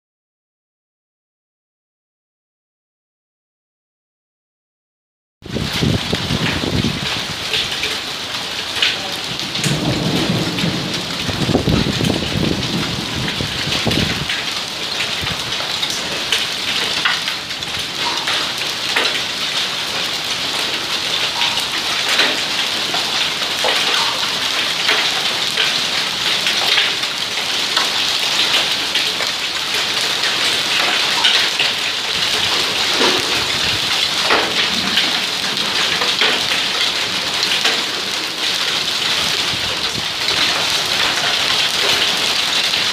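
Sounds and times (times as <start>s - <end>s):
hail and rain on stone paving: 5.4s - 42.9s
hailstones clicking: 6.3s - 42.9s.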